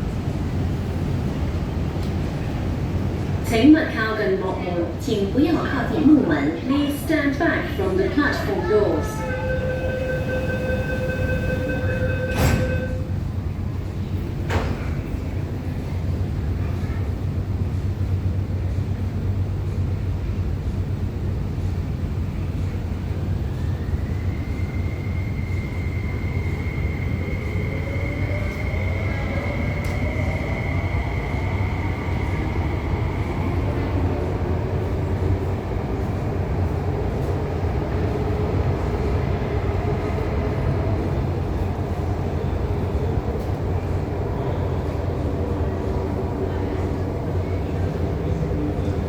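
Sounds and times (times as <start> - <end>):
train running rumble: 0.0 - 49.0.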